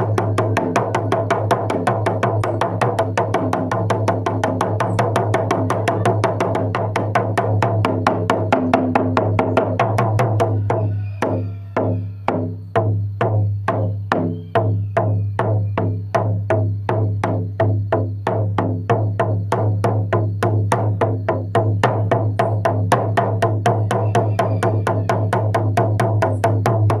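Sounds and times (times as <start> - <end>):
drum beating: 0.0 - 27.0.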